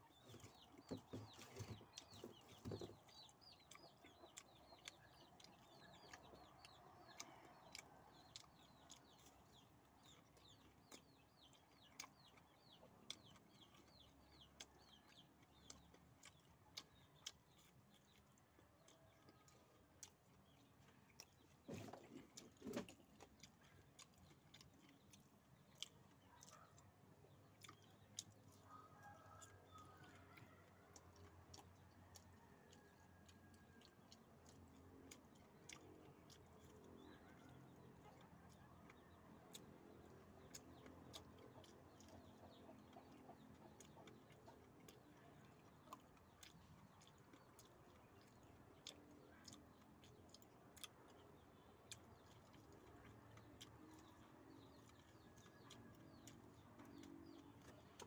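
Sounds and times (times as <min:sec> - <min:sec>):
man chewing and biting food: 0:00.0 - 0:58.0.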